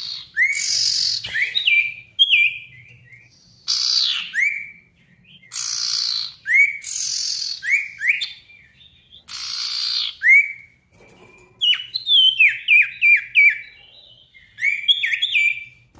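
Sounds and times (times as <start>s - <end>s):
descending whistled bird notes: 0.0s - 15.8s
songbird singing: 0.0s - 15.9s.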